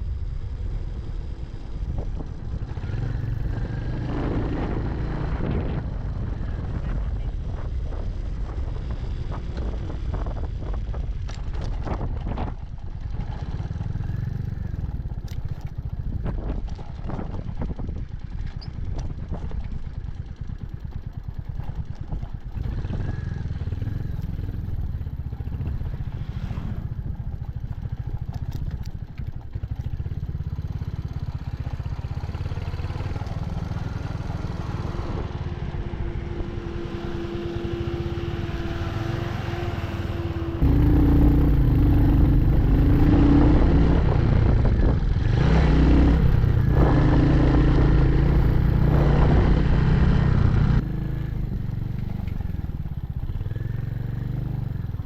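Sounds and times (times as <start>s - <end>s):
motorcycle engine running: 0.0s - 55.0s
road and wind rumble: 0.0s - 55.0s.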